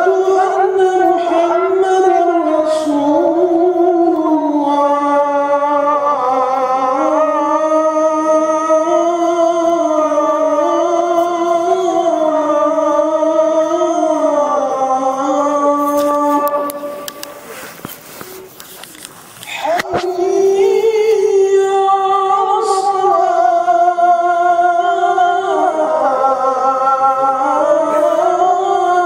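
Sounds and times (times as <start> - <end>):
man chanting: 0.0 - 17.5, 19.5 - 29.0.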